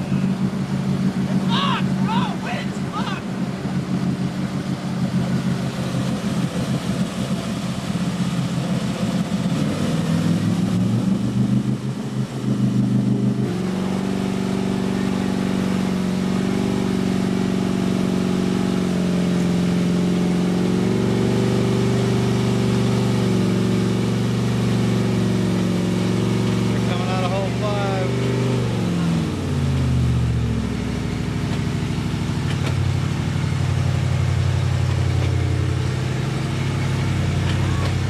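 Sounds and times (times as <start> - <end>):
steady engine drone: 0.0 - 38.0
truck engine revving: 0.0 - 38.0.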